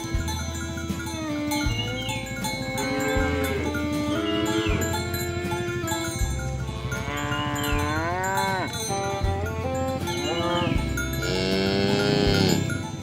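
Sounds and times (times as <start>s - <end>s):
music with bell-like notes: 0.0s - 13.0s
cow mooing: 1.4s - 13.0s.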